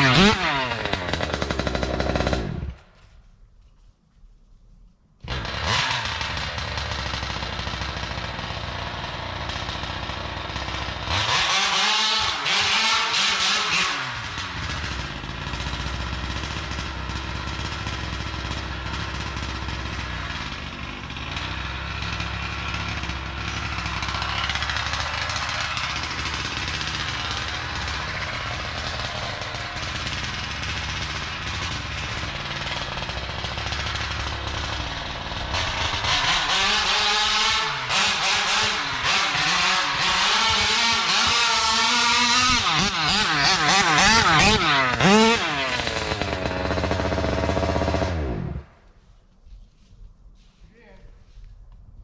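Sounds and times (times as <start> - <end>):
two-stroke engine revving: 0.0 - 2.8, 5.2 - 48.8.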